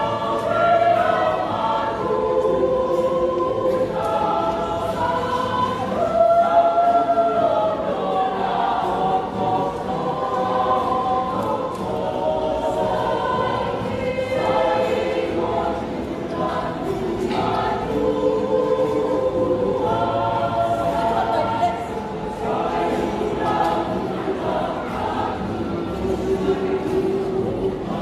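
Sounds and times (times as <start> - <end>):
mixed choir singing chords: 0.0 - 28.0.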